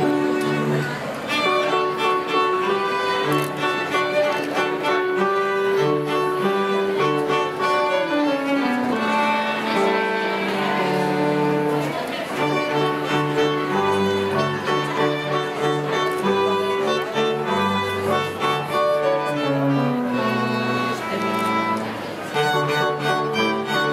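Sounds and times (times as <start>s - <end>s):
cello playing: 0.0s - 23.9s
violin playing: 0.0s - 23.9s.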